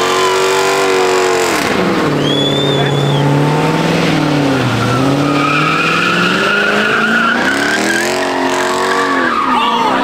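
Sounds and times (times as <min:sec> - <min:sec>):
car engine revving hard: 0:00.0 - 0:10.0
tires squealing: 0:00.0 - 0:10.0.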